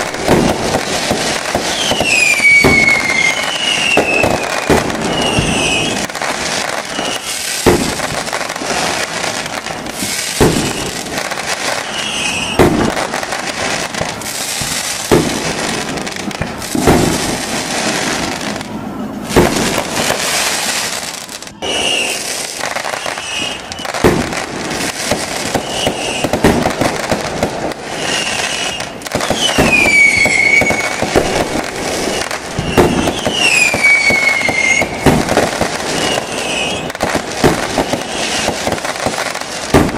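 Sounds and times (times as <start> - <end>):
falling firework whistles: 0.0 - 39.9
firework shells bursting: 0.0 - 39.9
fireworks crackling: 0.0 - 39.9.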